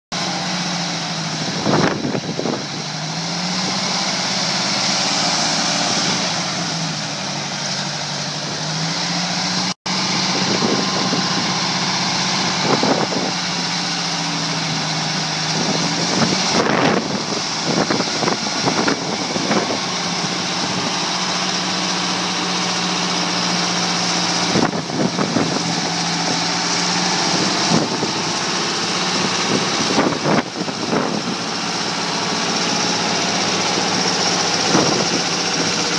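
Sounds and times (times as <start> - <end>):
truck diesel engine running: 0.1 - 35.9.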